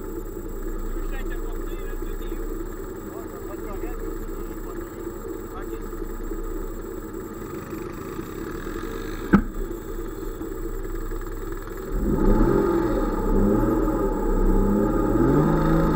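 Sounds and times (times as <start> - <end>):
vehicle engine revving: 0.0 - 15.9.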